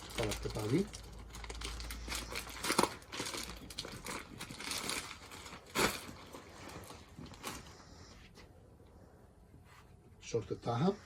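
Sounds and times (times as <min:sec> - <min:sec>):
clothing and wrapping rustling: 0:00.0 - 0:11.0.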